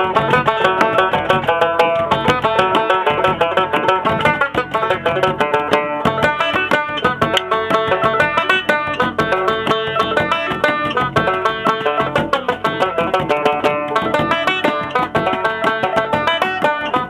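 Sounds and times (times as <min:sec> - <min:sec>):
banjo picking fast tune: 0:00.0 - 0:17.0
frame drum beating: 0:00.0 - 0:17.0.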